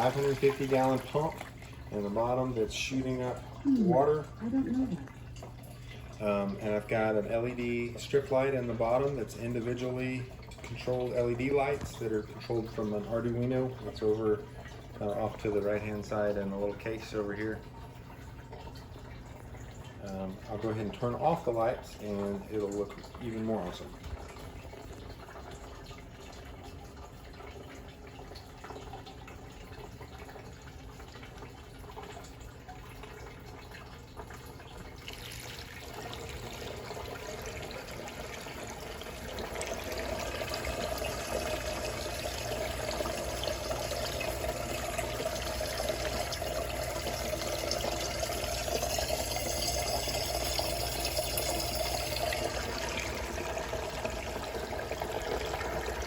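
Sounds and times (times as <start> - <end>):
pump low hum: 0.0 - 56.0.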